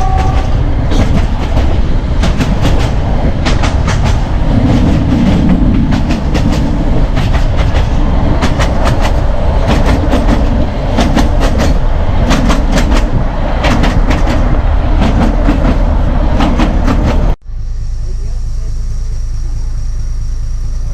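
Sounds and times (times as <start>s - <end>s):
train coaches rumbling on track: 0.0s - 17.4s.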